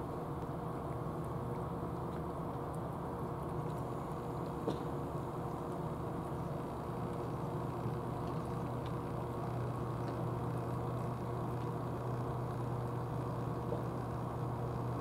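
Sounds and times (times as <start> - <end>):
faint constant whine: 0.0 - 15.0
low mechanical hum: 0.0 - 15.0.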